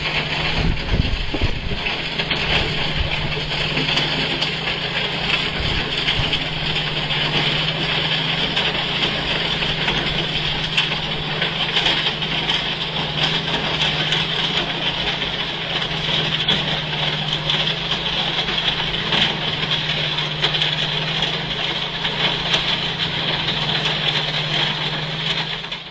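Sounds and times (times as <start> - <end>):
constant hiss: 0.0 - 25.7
diesel engine hum: 0.0 - 25.9
rattling ticks: 0.0 - 25.9.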